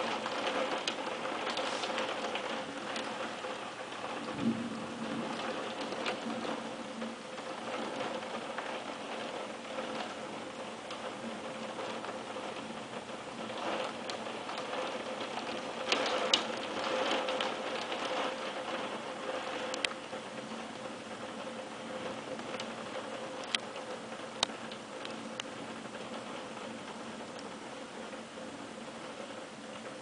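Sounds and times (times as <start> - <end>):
rain on hard surfaces: 0.0 - 30.0.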